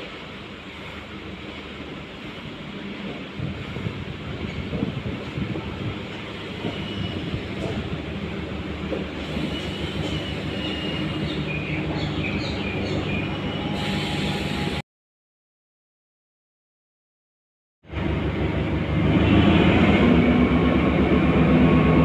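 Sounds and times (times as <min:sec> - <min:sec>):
diesel train engine humming: 0:00.0 - 0:14.8, 0:17.9 - 0:22.0.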